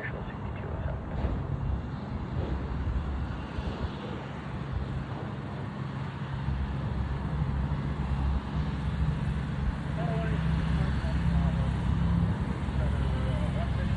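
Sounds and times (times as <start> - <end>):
jet engines rumbling: 0.0 - 13.9.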